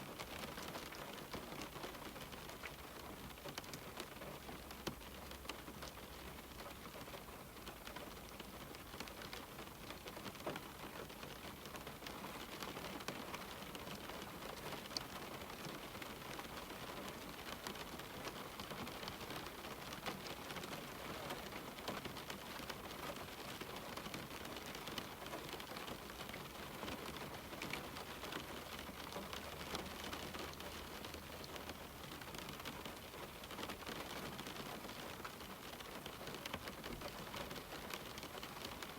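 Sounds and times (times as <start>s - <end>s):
rain on a window pane: 0.0s - 38.9s.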